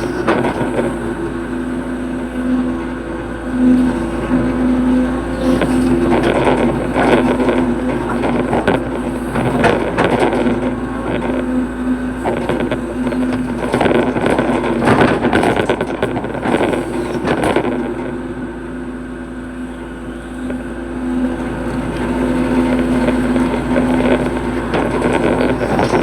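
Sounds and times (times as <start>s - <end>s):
excavator clattering: 0.0s - 26.0s
excavator diesel engine under load: 0.0s - 26.0s.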